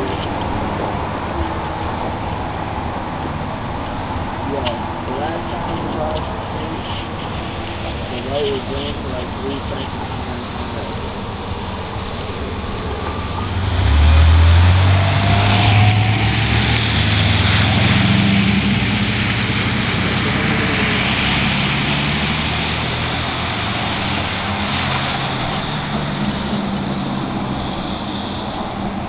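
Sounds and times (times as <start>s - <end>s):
tyres hissing on wet road: 0.0s - 29.0s
vehicle engine rumbling: 0.0s - 29.0s.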